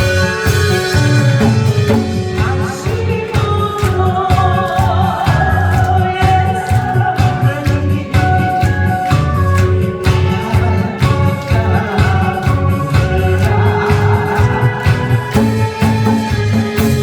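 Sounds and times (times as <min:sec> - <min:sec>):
hourglass drums playing: 0:00.0 - 0:17.0
steady drum beat: 0:00.0 - 0:17.0
upbeat music with singing: 0:00.0 - 0:17.0.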